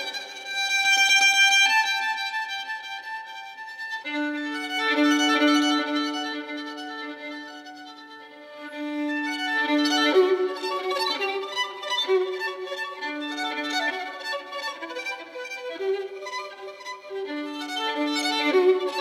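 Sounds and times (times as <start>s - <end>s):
violin playing long notes: 0.0s - 19.0s.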